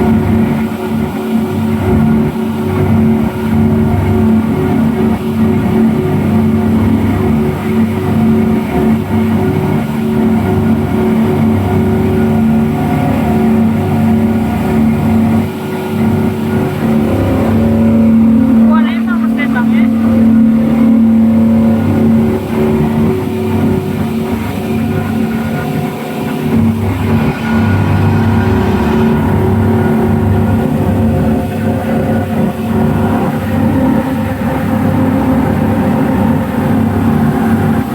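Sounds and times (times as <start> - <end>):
speedboat engines running: 0.0 - 37.9.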